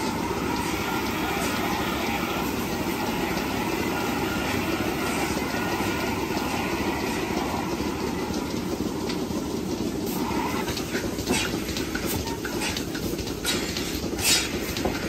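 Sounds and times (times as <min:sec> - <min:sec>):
milking machinery running: 0:00.0 - 0:15.0.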